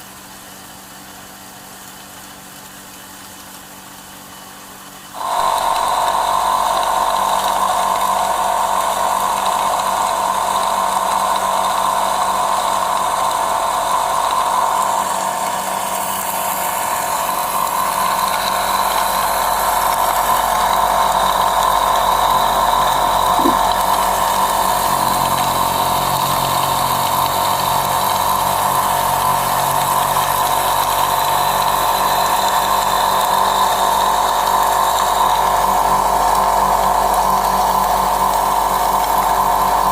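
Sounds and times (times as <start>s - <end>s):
pepper grinder whirring: 5.1s - 39.9s.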